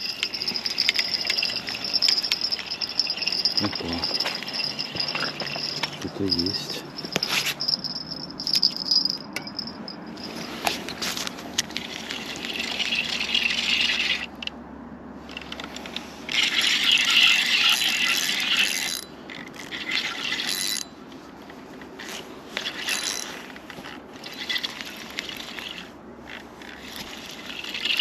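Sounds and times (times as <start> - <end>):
fishing reel cranking: 0.0 - 9.7, 11.8 - 14.5, 16.3 - 20.8, 22.0 - 28.0.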